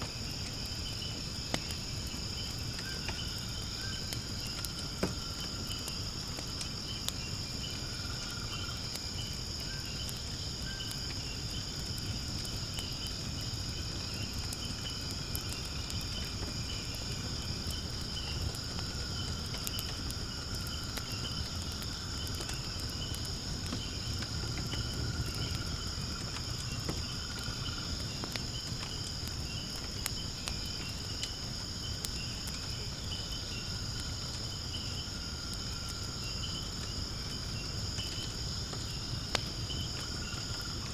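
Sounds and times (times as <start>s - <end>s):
insects chirring: 0.0s - 40.9s
low rumble of fire: 0.0s - 40.9s
wood fire crackling and popping: 0.0s - 40.9s.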